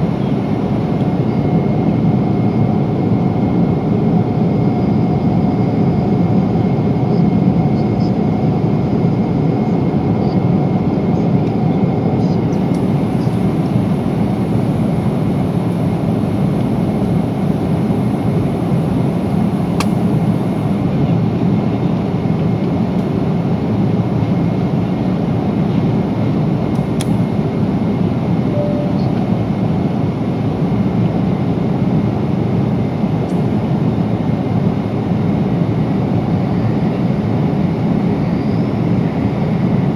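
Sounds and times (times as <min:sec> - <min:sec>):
airplane cabin noise: 0:00.0 - 0:39.9.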